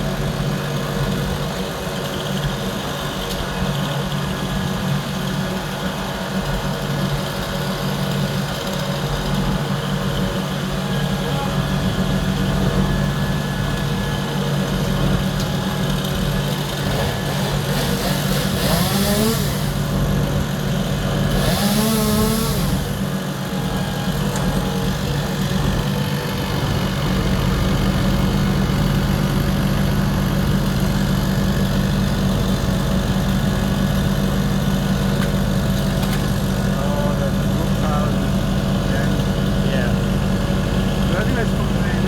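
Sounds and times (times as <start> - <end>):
distant voices: 0.0 - 42.0
vehicle engine idling: 0.0 - 42.0.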